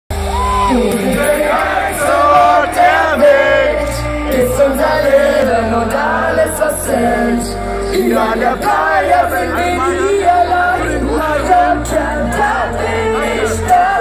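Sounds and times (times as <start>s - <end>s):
amplified backing music with bass: 0.1s - 14.0s
woman singing into microphone: 0.2s - 14.0s.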